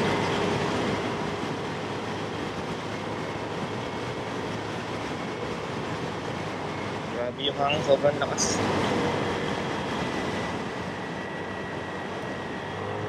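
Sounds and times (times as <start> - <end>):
strong wind buffeting microphone: 0.0 - 12.9.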